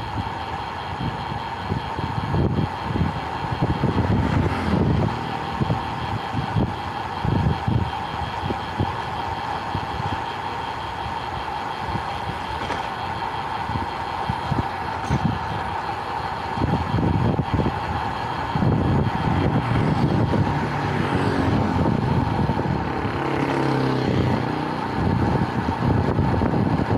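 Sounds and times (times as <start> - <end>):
wind buffeting microphone: 0.9 - 10.2, 13.4 - 26.9.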